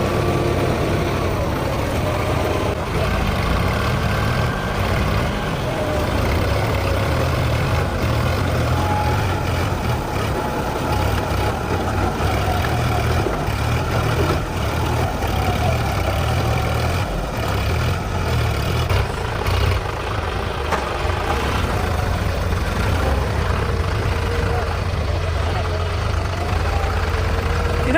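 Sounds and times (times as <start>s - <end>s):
tractor diesel engine droning: 0.0s - 27.9s.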